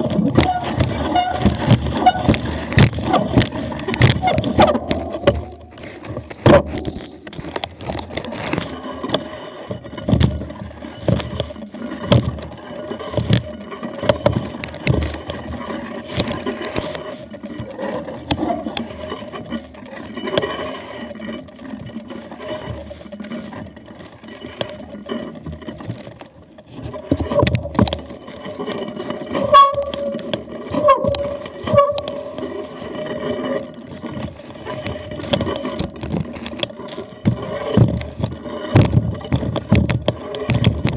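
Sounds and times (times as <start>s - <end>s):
bike rattling over bumps: 0.0s - 40.9s.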